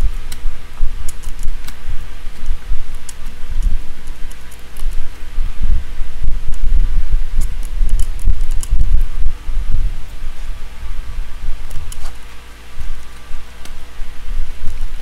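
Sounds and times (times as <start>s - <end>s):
low rumble and thumping: 0.0s - 15.0s.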